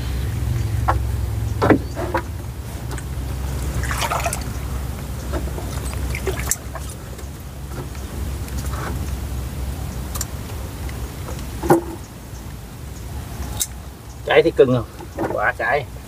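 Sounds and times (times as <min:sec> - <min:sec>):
steady low hum: 0:00.0 - 0:16.0
leaves rustling: 0:01.9 - 0:16.0.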